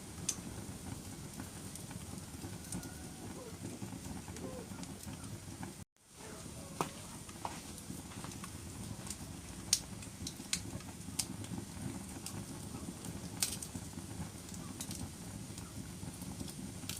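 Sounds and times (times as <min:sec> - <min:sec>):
logs popping: 0:00.0 - 0:16.9
wood fire crackling: 0:00.0 - 0:16.9.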